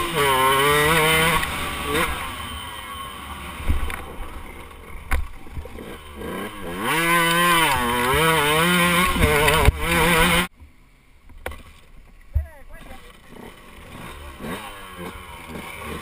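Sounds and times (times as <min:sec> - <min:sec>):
motocross bike engine revving: 0:00.0 - 0:10.5, 0:12.6 - 0:16.0.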